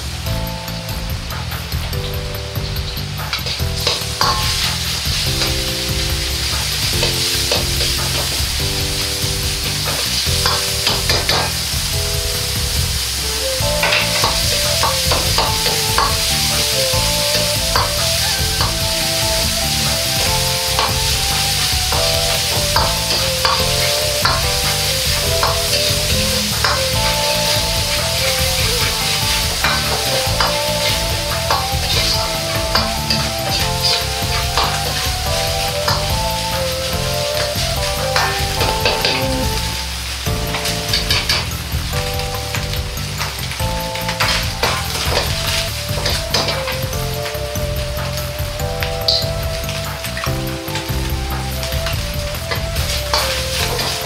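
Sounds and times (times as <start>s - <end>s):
meat sizzling in a wok: 0.0s - 54.0s.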